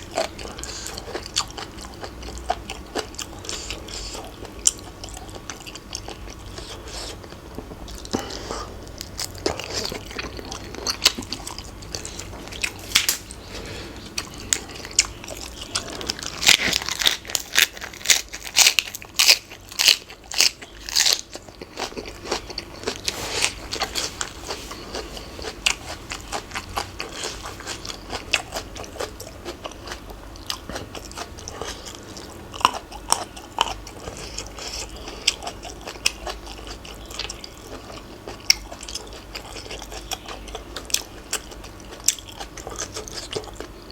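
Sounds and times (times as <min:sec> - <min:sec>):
crunchy chewing: 0:00.0 - 0:43.9.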